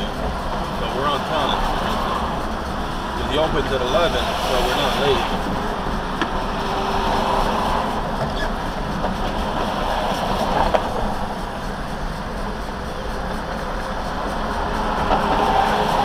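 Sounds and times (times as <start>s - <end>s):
car cabin road noise: 0.0s - 16.0s.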